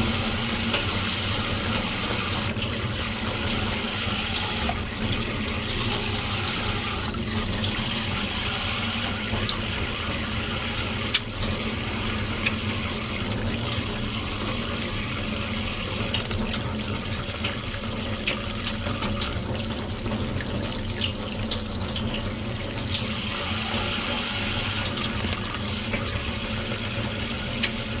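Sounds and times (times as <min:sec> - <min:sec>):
water running from a tap: 0:00.0 - 0:28.0.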